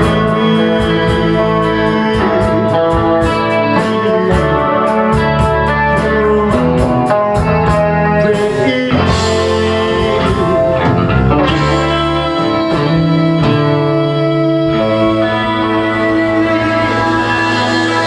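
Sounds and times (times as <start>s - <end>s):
guitar chords ringing: 0.0s - 18.0s
low bass line: 0.0s - 18.0s.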